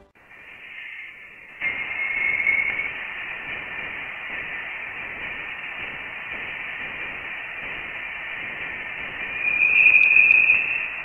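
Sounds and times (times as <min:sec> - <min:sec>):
static-like hiss: 0:00.2 - 0:11.0.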